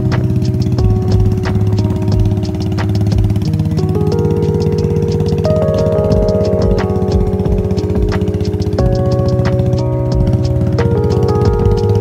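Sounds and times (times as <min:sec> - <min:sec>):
background music with beat: 0:00.0 - 0:12.0
motorcycle engine running: 0:00.0 - 0:12.0.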